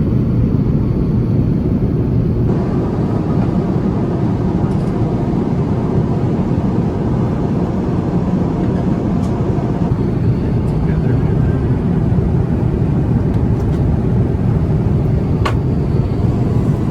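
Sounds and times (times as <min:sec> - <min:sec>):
airliner cabin noise: 0:00.0 - 0:16.9.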